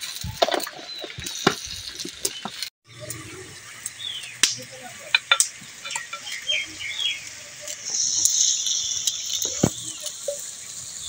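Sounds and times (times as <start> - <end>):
onions and garlic sizzling: 0.0 - 11.0.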